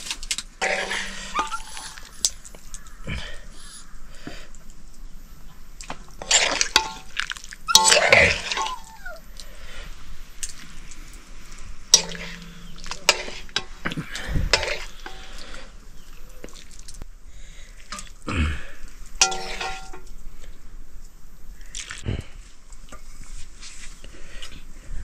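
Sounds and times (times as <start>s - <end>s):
people eating: 0.0s - 20.7s.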